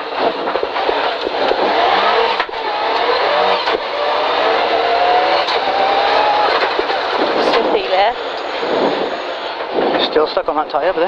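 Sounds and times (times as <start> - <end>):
rally car engine accelerating: 0.0 - 10.5.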